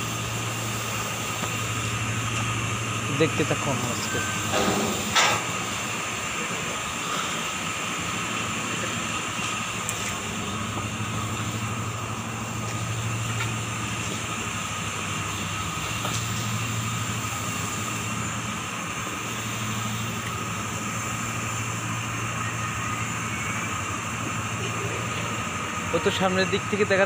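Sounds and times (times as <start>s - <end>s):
machinery low hum: 0.0s - 27.0s
thin machinery whine: 0.0s - 27.0s.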